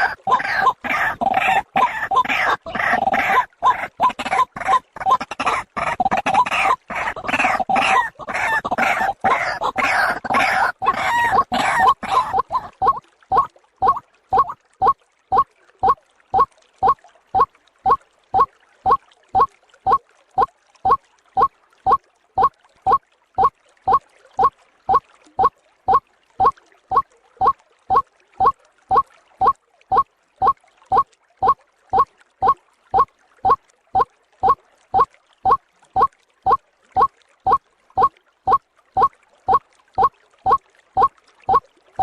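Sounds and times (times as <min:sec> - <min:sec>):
waterhen calls: 0:00.0 - 0:33.6, 0:34.4 - 0:42.0.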